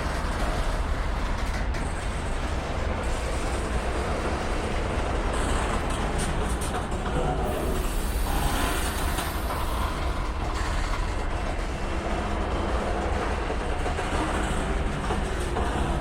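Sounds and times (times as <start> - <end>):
freight train cars rolling on rails: 0.0 - 16.0.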